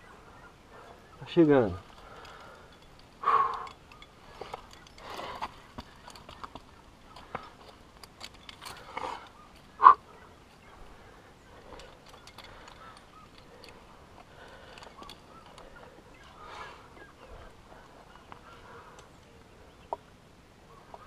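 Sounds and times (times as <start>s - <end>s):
climber breathing: 0.0s - 20.0s
carabiners clinking: 0.7s - 10.0s, 10.6s - 19.4s.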